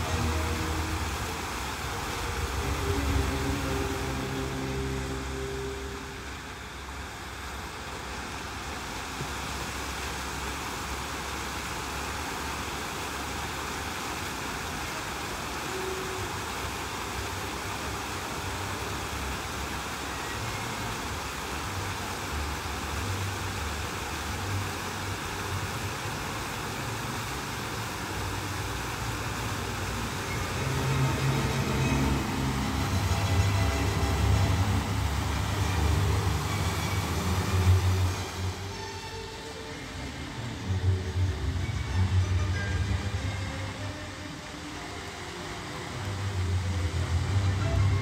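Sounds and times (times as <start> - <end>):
fountain water spraying: 0.0 - 48.0.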